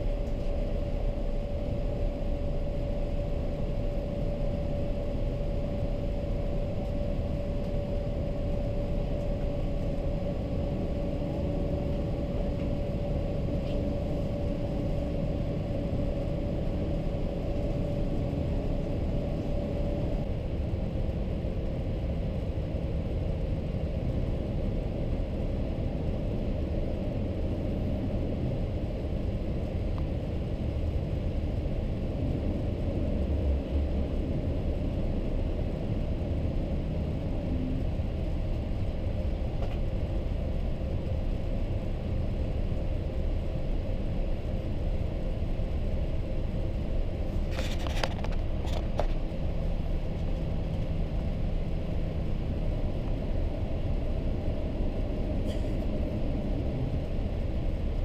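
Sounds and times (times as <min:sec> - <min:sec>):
jet engine and airflow rumble: 0:00.0 - 0:58.0
steady hum: 0:00.0 - 0:58.0.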